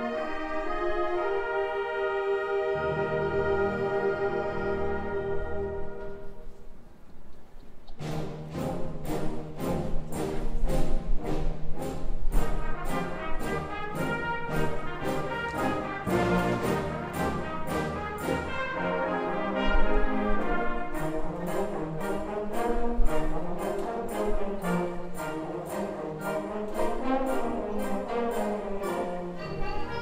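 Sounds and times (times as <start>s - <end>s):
brass and saxophones chords: 0.0s - 6.5s, 12.4s - 30.0s.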